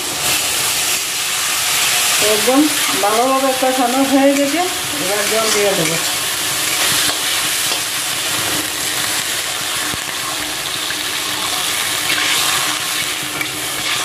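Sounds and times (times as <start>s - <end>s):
spice paste hissing and bubbling: 0.0s - 14.0s.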